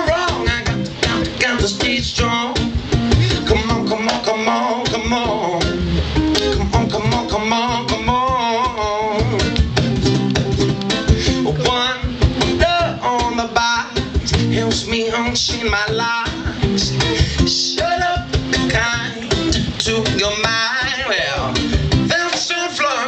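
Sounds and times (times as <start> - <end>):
person singing: 0.0 - 5.8, 6.4 - 23.0
drums: 0.0 - 23.0
guitar: 0.0 - 23.0.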